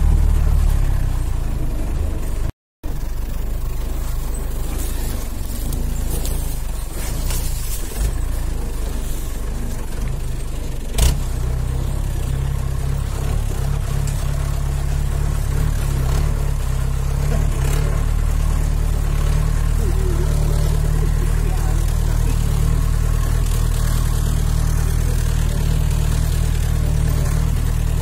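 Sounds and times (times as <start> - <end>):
jeep engine running: 0.0 - 28.0.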